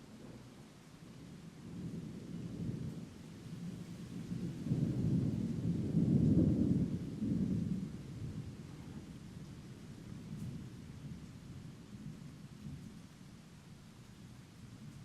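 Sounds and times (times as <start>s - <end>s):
thunder rumbling: 0.0s - 13.4s.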